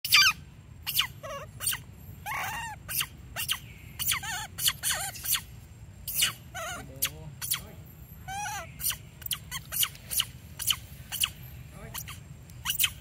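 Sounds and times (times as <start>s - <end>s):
young monkey squealing: 0.0s - 13.0s.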